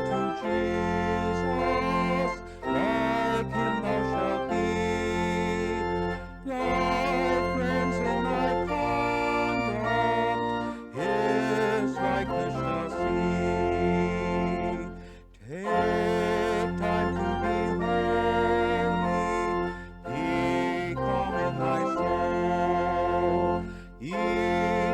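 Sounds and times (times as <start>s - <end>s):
organ chords: 0.0s - 24.9s.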